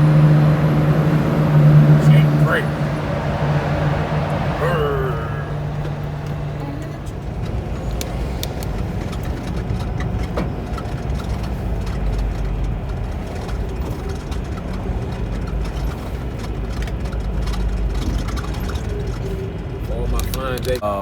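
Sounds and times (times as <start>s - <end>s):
road noise: 0.0s - 21.0s
truck diesel engine rumble: 0.0s - 21.0s.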